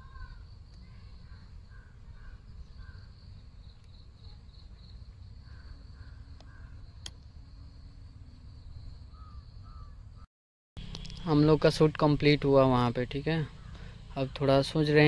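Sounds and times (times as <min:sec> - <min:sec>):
birds calling: 0:00.0 - 0:08.0, 0:08.6 - 0:11.2, 0:12.7 - 0:15.0.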